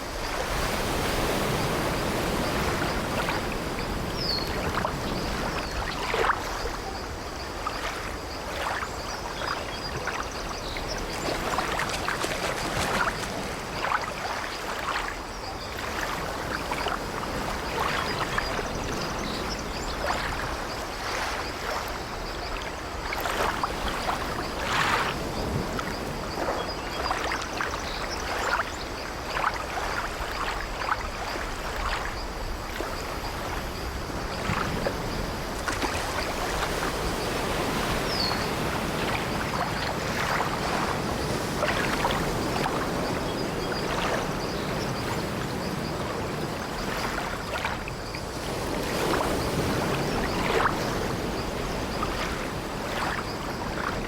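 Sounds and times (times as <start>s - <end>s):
sea water sloshing against ship: 0.0s - 54.0s.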